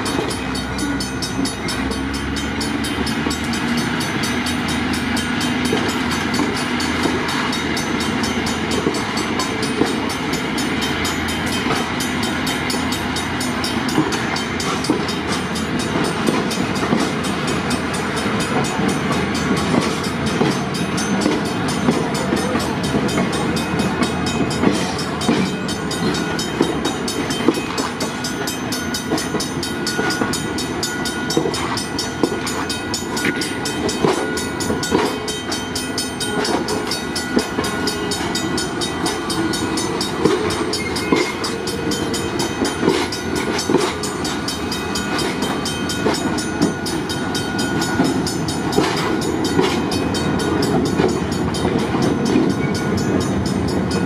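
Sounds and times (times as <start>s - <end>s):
train rumble: 0.0s - 54.0s
train wheels clattering over joints: 0.0s - 54.0s.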